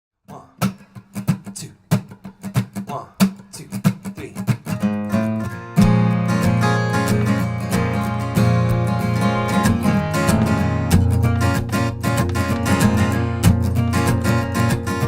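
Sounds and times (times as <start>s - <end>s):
acoustic guitar strumming: 0.3s - 15.0s.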